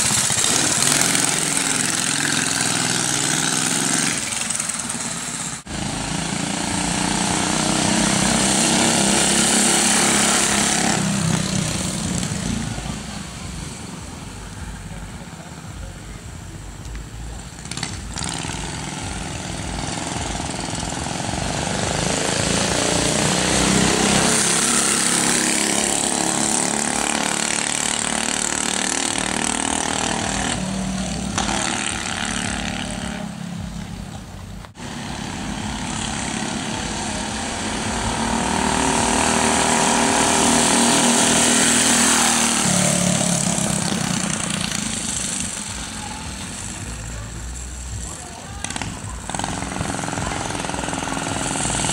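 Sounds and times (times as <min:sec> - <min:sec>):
small gasoline engine running: 0:00.0 - 0:12.9, 0:17.6 - 0:33.0, 0:34.8 - 0:51.9.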